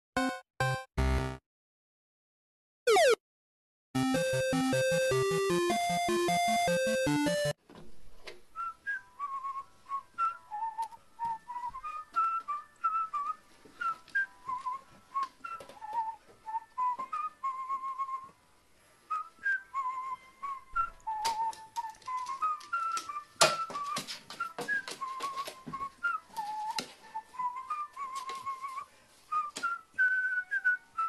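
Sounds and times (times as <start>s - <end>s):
whistled melody: 4.0s - 7.6s, 8.6s - 18.4s, 19.1s - 31.0s.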